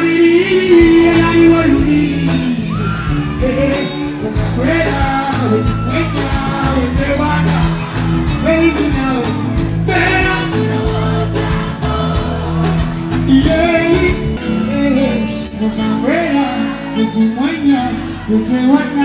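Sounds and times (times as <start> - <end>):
man singing: 0.0 - 19.0
pop music through loudspeakers: 0.0 - 19.0.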